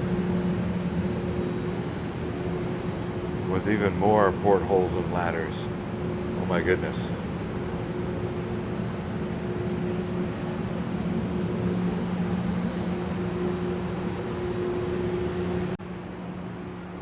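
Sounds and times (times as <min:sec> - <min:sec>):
ventilation fan humming: 0:00.0 - 0:17.0.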